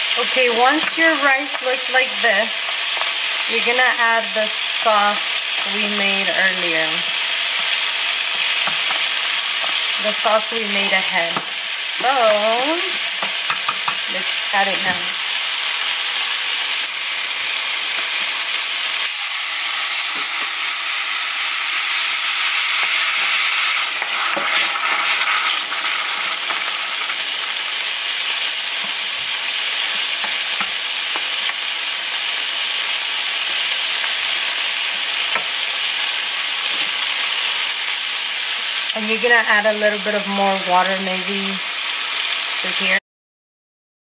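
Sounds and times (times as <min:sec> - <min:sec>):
rice sizzling in oil: 0:00.0 - 0:43.0.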